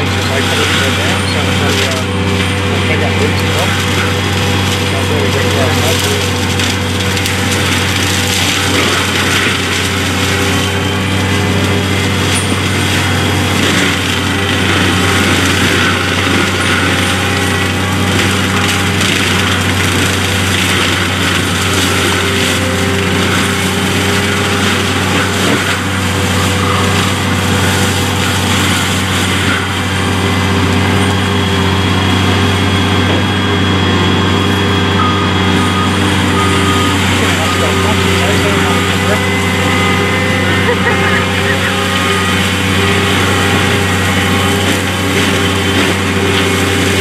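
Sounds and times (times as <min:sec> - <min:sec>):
diesel engine droning: 0:00.0 - 0:47.0
mulching head grinding brush: 0:00.0 - 0:47.0.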